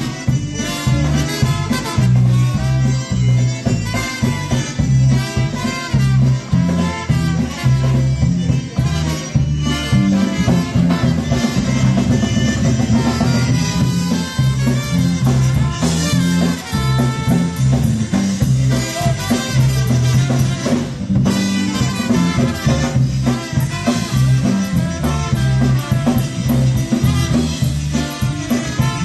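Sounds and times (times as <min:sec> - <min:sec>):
bass line: 0:00.0 - 0:29.0
dance band lead instruments: 0:00.0 - 0:29.0
drum kit beat: 0:00.0 - 0:29.0.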